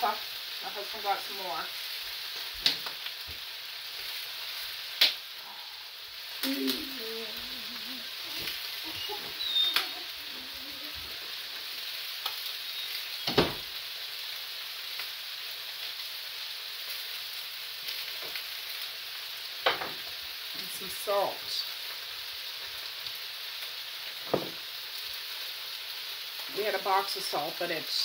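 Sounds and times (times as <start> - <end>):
food sizzling in frying pans: 0.0 - 28.0.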